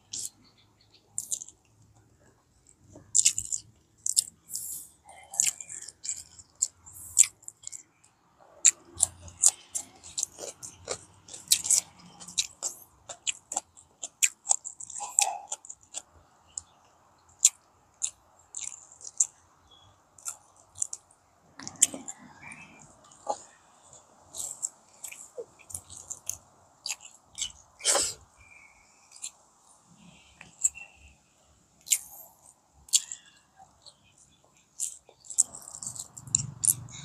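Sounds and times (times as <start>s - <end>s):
wet chewing mouth clicks: 1.0s - 1.8s, 2.6s - 16.8s, 17.4s - 31.0s, 31.8s - 34.0s, 34.8s - 37.0s.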